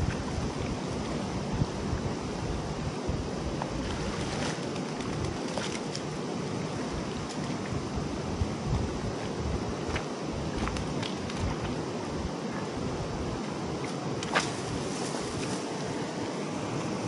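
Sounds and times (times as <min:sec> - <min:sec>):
river water running over rocks: 0:00.0 - 0:17.0
wind rumbling on microphone: 0:00.0 - 0:17.0.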